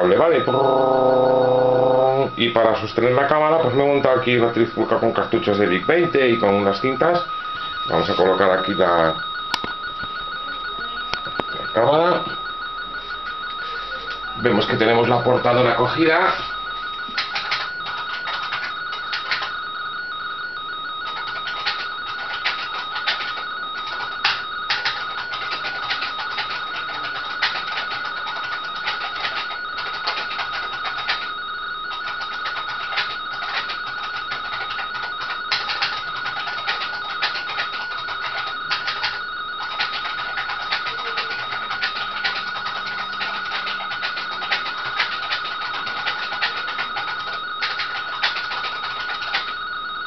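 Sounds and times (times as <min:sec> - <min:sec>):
static crackles: 0:00.0 - 0:50.0
warbling two-tone data signal: 0:00.0 - 0:50.0.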